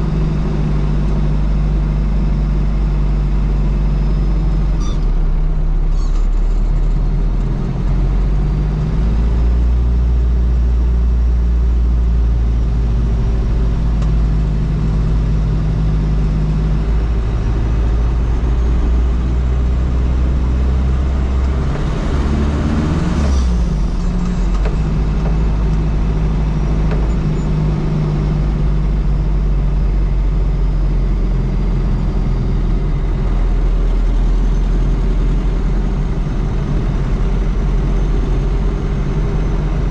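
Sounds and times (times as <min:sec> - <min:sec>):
diesel engine droning while driving: 0:00.0 - 0:39.9.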